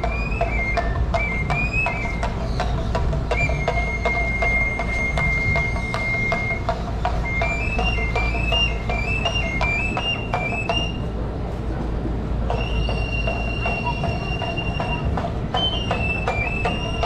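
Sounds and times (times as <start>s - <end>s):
high flute melody: 0.0s - 11.2s, 12.5s - 17.0s
drum beats: 0.0s - 17.0s.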